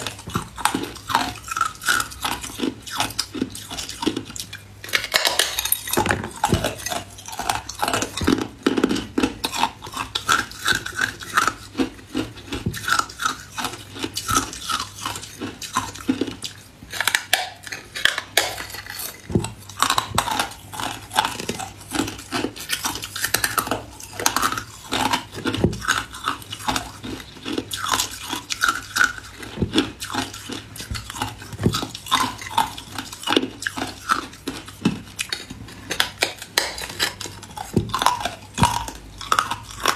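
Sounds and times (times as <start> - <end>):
teeth crunching ice: 0.0 - 39.9.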